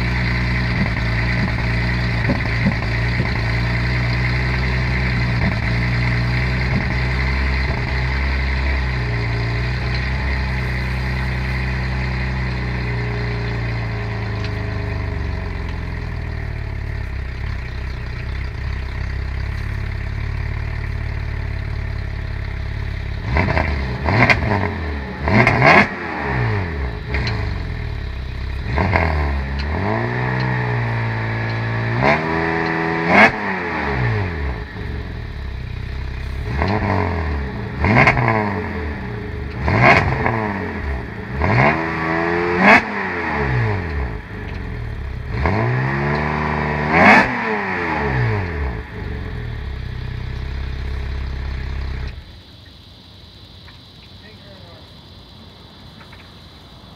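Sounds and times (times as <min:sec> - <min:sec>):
car engine idling and revving: 0:00.0 - 0:54.4.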